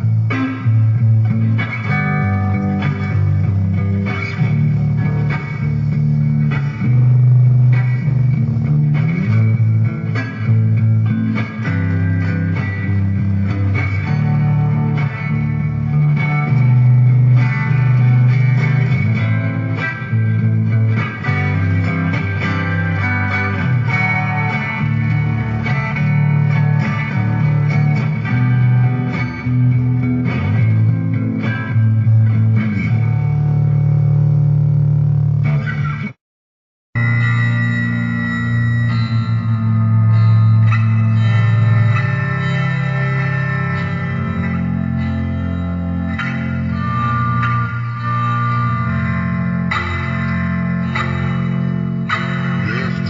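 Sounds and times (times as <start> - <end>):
rock guitar riff: 0.0 - 36.2, 37.0 - 53.0.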